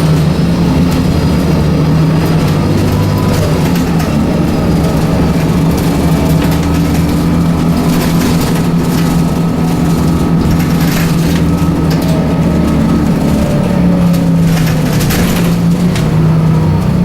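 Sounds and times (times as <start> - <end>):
bus engine humming: 0.0 - 17.0
brief rattles: 0.1 - 17.0.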